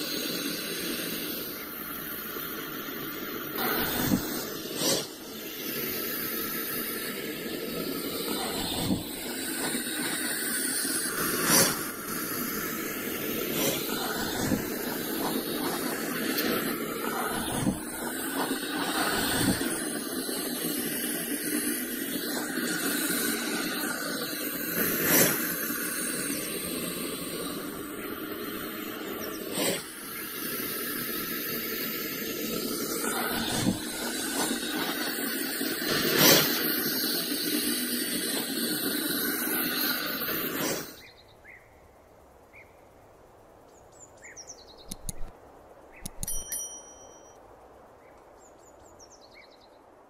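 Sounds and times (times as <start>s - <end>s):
snake hissing: 0.0s - 41.1s.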